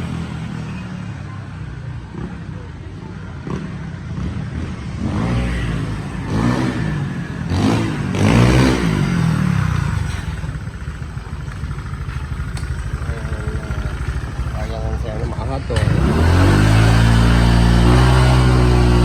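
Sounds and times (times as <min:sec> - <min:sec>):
motor scooter engine revving: 0:03.4 - 0:19.0.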